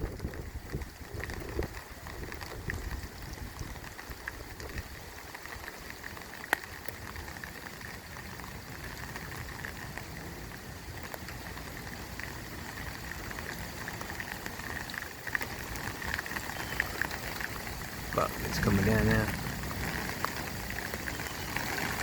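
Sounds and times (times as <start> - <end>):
raindrops tapping close by: 0.0 - 22.0
steady rain: 0.0 - 22.0.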